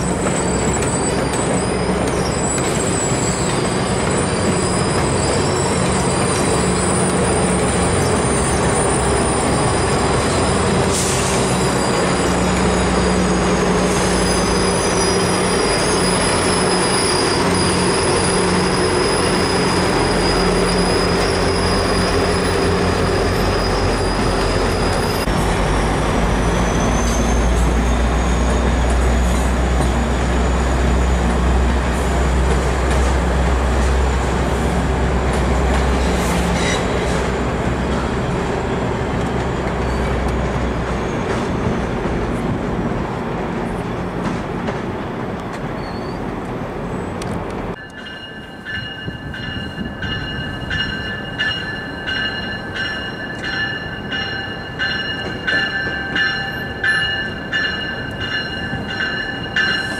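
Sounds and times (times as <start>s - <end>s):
train wheels squealing: 0.0s - 32.5s, 35.8s - 42.0s, 45.6s - 46.3s, 46.9s - 59.9s
low rumble of departing train: 0.0s - 59.9s.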